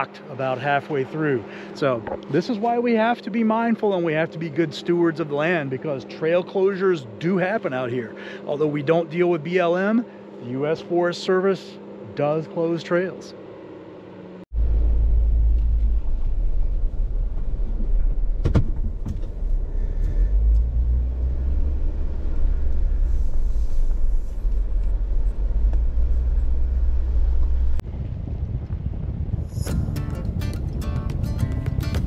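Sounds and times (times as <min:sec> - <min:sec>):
vehicle engine low rumble: 0:00.0 - 0:32.0.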